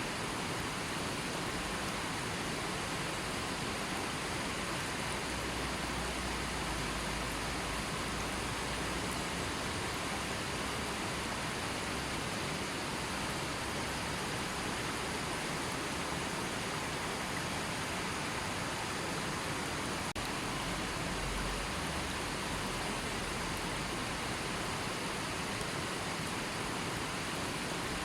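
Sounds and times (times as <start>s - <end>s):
river flowing: 0.0s - 28.0s.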